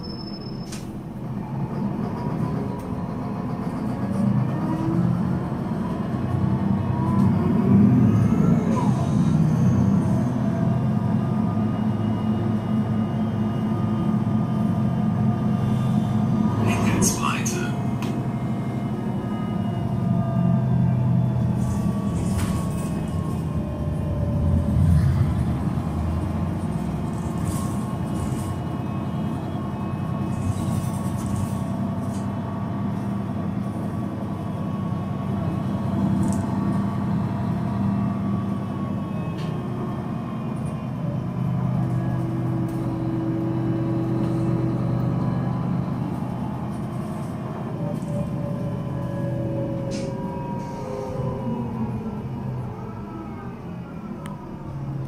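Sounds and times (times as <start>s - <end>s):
diesel bus engine idling: 0.0s - 55.0s.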